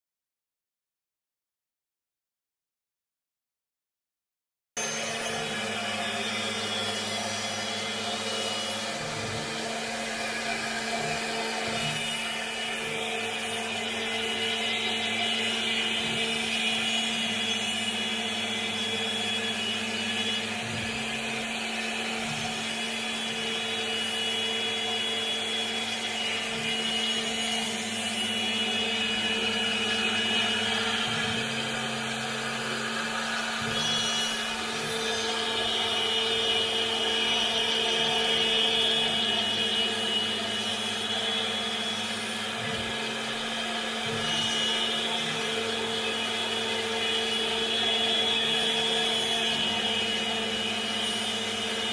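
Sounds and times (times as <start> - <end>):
router spindle running: 4.8 - 51.9.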